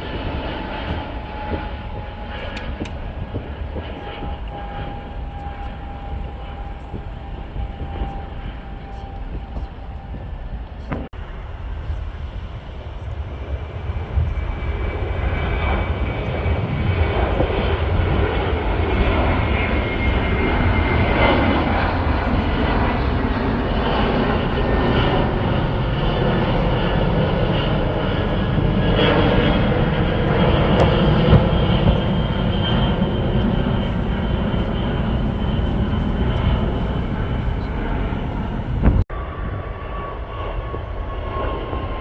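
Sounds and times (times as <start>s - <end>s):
high engine whine: 0.0s - 41.9s
jet engines at takeoff: 0.0s - 42.0s.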